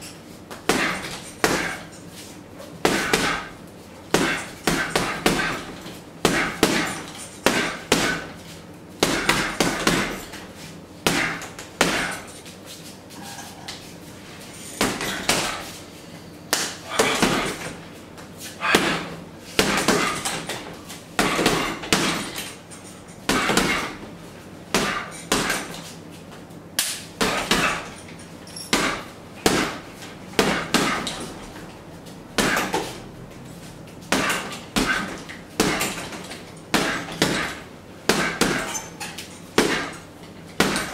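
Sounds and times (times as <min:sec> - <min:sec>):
boxing gloves punching heavy bag: 0:00.5 - 0:02.0, 0:02.7 - 0:12.6, 0:14.5 - 0:15.8, 0:16.5 - 0:26.0, 0:27.2 - 0:33.2, 0:34.0 - 0:40.9.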